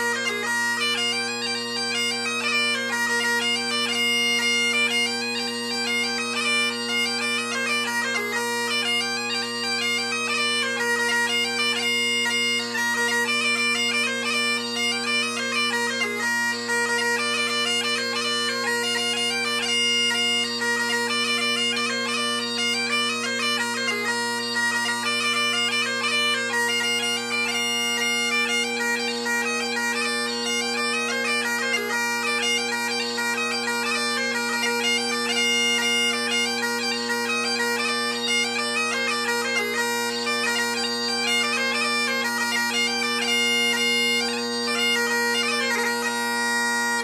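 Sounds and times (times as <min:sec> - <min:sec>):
bagpipe chanter melody: 0:00.0 - 0:47.0
bagpipe drones: 0:00.0 - 0:47.0.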